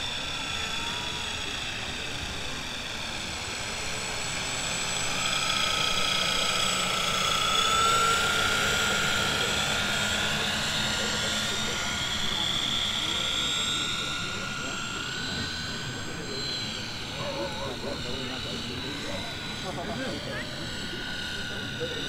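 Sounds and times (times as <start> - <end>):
model plane motors whining: 0.0 - 22.0.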